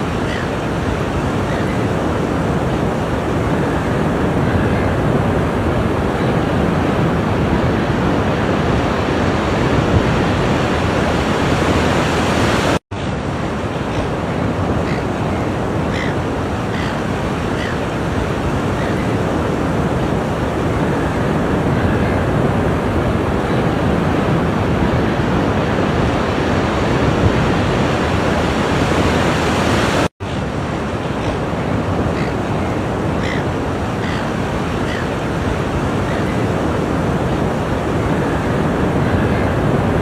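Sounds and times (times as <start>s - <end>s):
waves breaking on shore: 0.0s - 40.0s.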